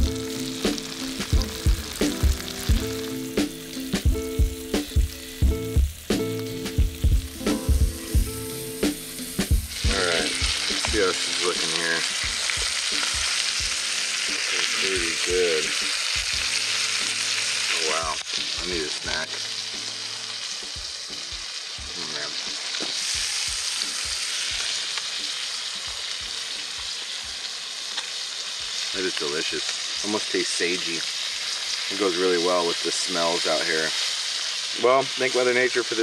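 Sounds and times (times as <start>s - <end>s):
fish sizzling in a skillet: 0.0s - 36.0s.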